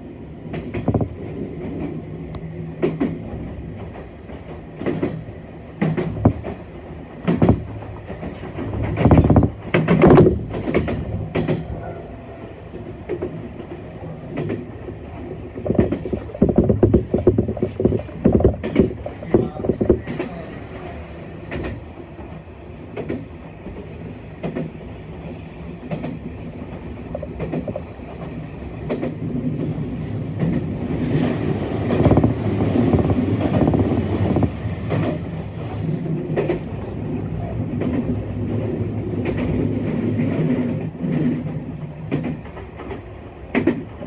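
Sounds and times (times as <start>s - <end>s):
train wheels rumbling on track: 0.0s - 44.0s
rail-joint clack: 0.5s - 44.0s.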